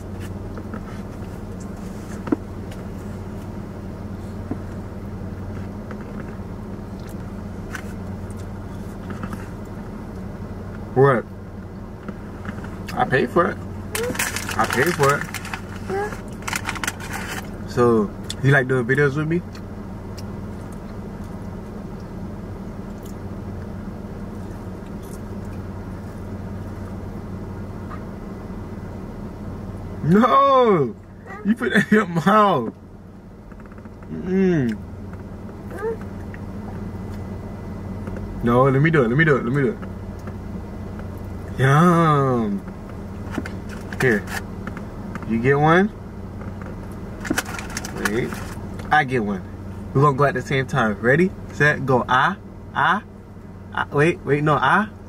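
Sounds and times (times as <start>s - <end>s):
car engine hum: 0.0s - 55.0s.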